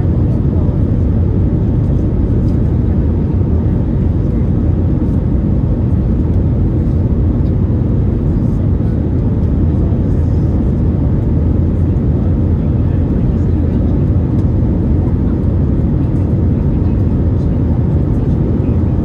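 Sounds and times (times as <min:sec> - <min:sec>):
aircraft cabin engine rumble: 0:00.0 - 0:19.0.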